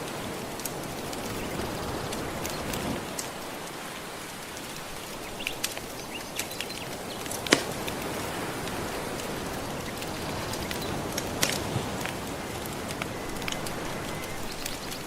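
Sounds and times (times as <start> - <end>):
gentle ocean waves: 0.0 - 15.0
wood fire crackling and popping: 0.0 - 15.0.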